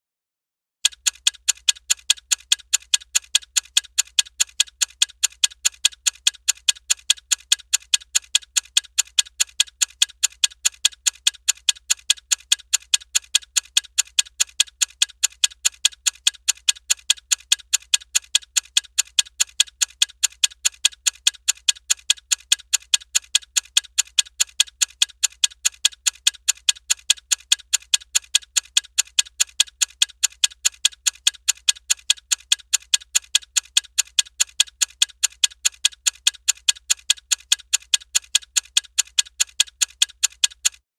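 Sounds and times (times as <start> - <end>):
fast clock ticking: 0.8 - 40.9.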